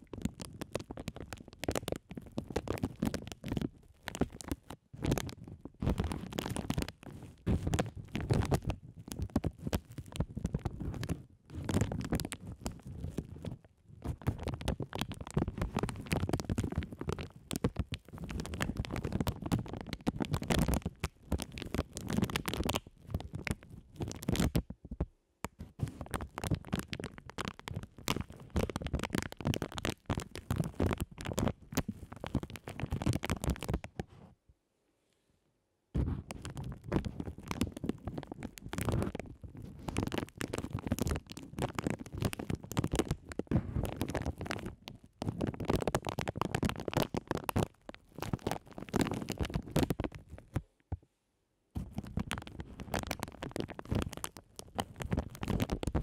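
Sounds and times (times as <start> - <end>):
plastic bags crinkling on microphone: 0.0 - 34.3, 36.0 - 50.7, 51.8 - 56.0.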